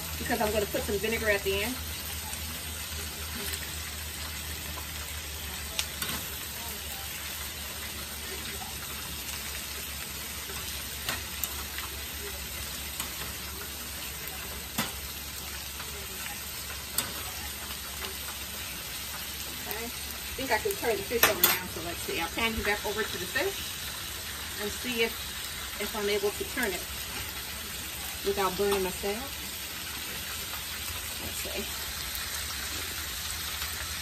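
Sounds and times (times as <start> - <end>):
fish frying in hot oil: 0.0 - 34.0.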